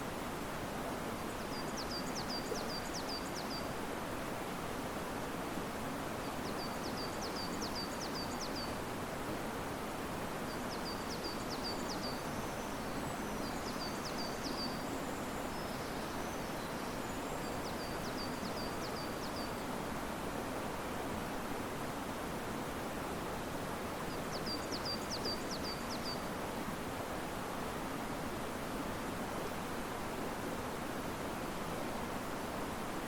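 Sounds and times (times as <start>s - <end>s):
river rushing: 0.0s - 33.0s
wind in trees: 0.0s - 33.0s.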